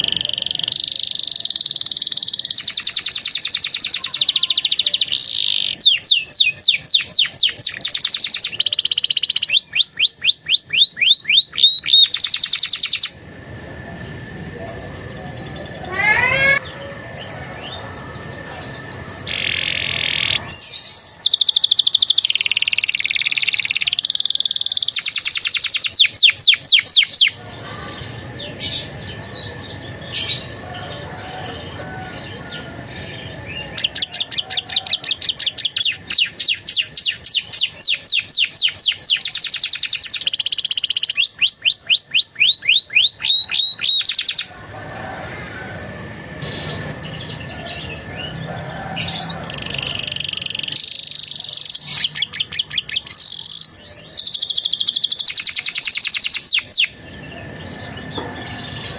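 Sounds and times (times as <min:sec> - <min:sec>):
canary singing trills: 0:00.0 - 0:13.4, 0:14.2 - 0:44.6, 0:46.4 - 0:58.9.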